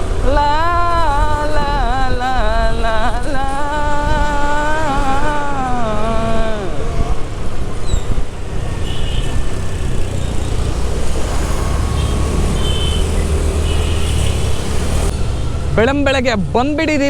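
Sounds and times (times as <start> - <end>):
wind rushing over microphone: 0.0 - 16.1
motorcycle engine rumble: 0.0 - 17.0
traffic rumble: 0.0 - 17.0.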